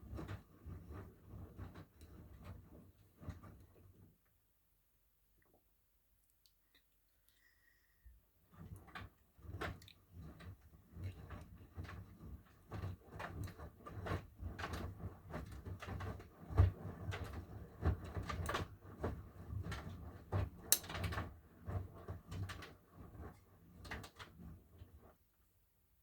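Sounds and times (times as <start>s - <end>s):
washing machine hum: 0.0s - 4.2s, 7.6s - 25.2s.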